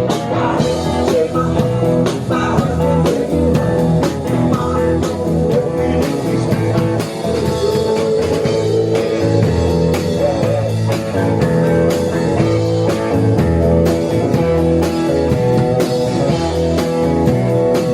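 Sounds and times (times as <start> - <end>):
band music with guitar and drums: 0.0 - 17.9.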